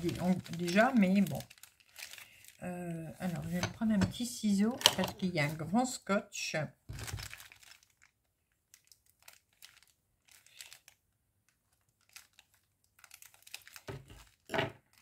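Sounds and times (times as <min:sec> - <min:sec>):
plastic packaging crinkling: 0:00.0 - 0:05.7, 0:06.9 - 0:15.0.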